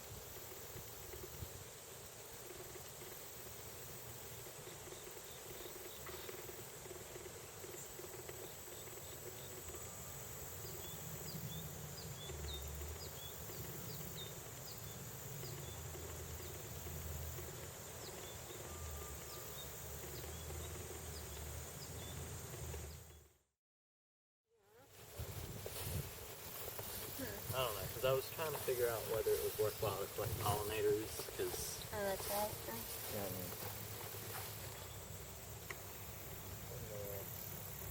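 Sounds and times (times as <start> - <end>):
insect trill: 0.0 - 23.2, 25.0 - 37.9.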